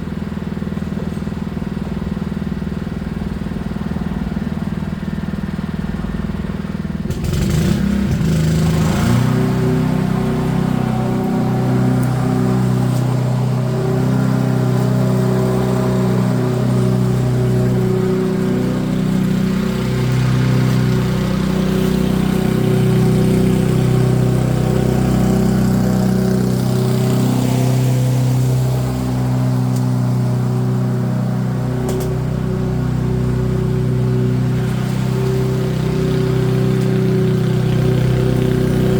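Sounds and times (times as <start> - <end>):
small petrol engine running: 0.0 - 38.9.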